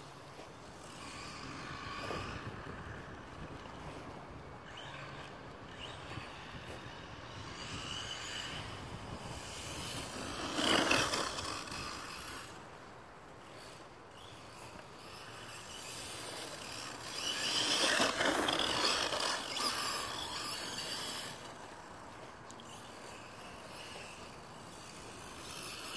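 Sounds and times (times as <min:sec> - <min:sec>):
tyres on dry grass: 0:00.0 - 0:25.9
electric toy truck motor: 0:00.1 - 0:25.9.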